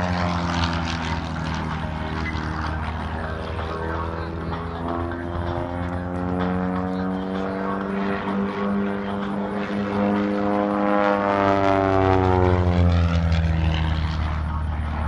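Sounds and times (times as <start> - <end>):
propeller airplane droning: 0.0 - 15.0.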